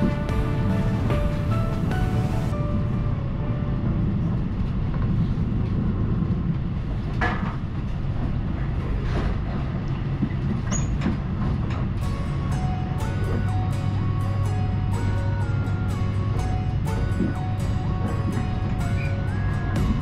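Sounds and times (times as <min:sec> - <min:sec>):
low rumble of wheels on rails: 0:00.0 - 0:20.0.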